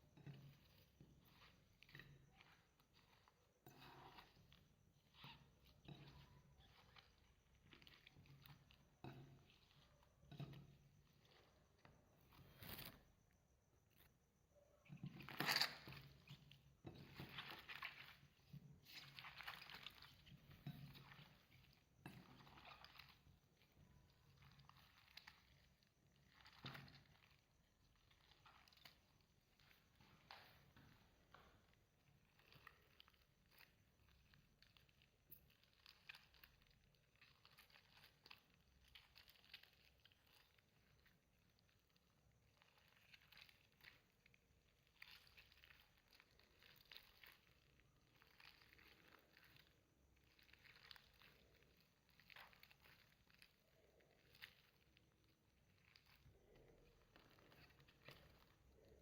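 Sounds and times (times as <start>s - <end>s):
clay slime squished by hand: 0.0s - 59.0s.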